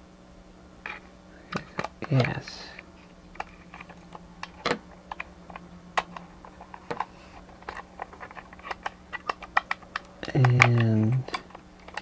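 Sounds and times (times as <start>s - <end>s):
hard plastic parts clicking: 0.9s - 12.0s.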